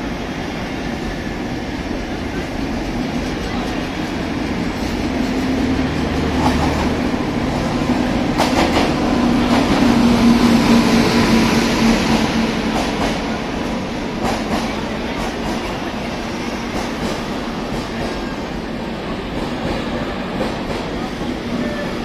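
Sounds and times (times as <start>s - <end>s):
steady train hum: 0.0s - 22.0s.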